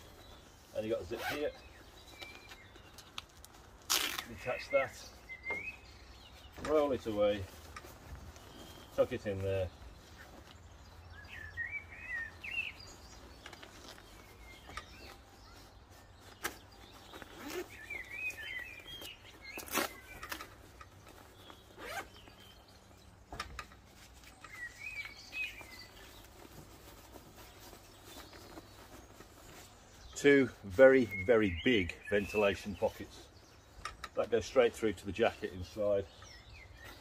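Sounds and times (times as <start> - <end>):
zip and fabric rustling: 0.0 - 23.2, 23.8 - 31.6.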